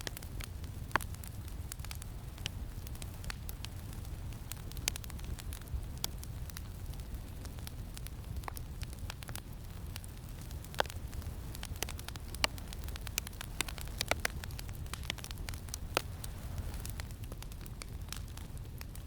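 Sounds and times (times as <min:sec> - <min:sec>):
campfire crackling and popping: 0:00.0 - 0:19.0
low rumble of wind: 0:00.0 - 0:19.0.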